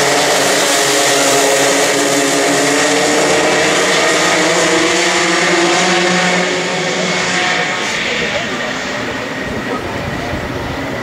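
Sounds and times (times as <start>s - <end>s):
racing kart engines: 0.0s - 11.0s.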